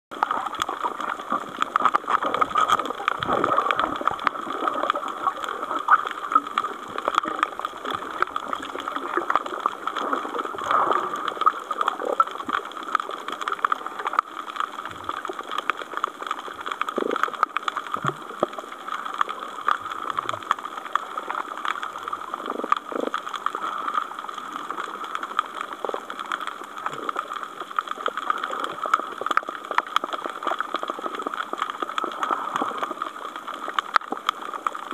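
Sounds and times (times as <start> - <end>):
low bubbly sounds: 0.1 - 34.9
underwater crackling hiss: 0.2 - 34.9.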